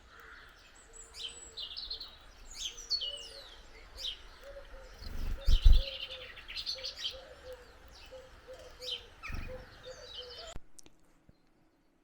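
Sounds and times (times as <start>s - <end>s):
garden birds chirping: 0.0s - 12.0s.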